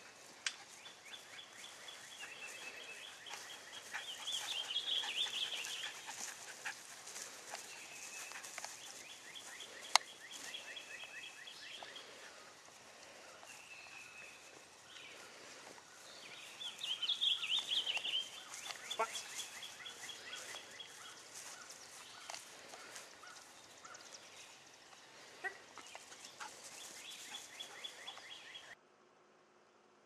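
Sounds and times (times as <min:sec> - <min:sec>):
birds chirping: 0:00.0 - 0:28.8
faint outdoor hiss: 0:00.0 - 0:30.0.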